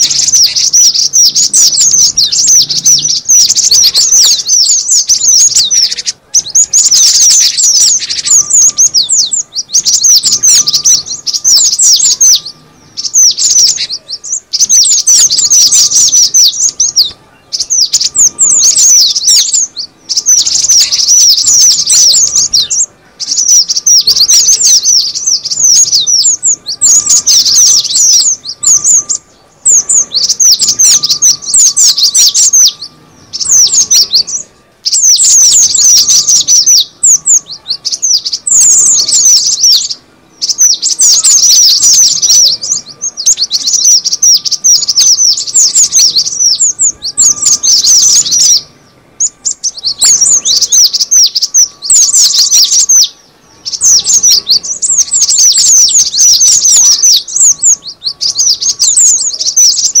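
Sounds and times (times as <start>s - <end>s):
bird chattering calls: 0.0s - 60.0s.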